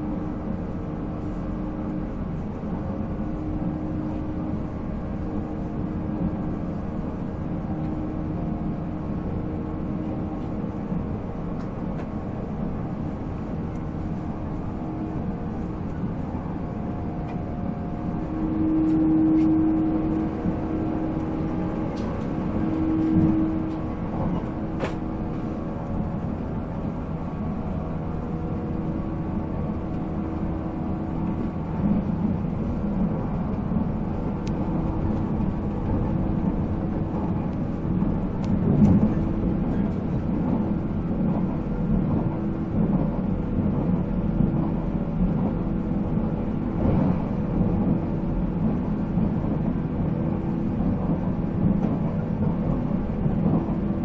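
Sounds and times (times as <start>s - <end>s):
train motor hum and gear whine: 0.0s - 54.0s
train wheels rumbling: 0.0s - 54.0s.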